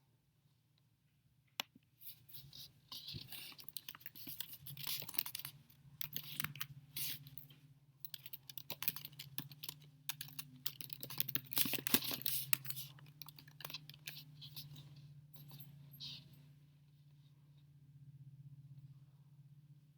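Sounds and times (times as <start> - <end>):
steady low hum: 2.0 - 19.9.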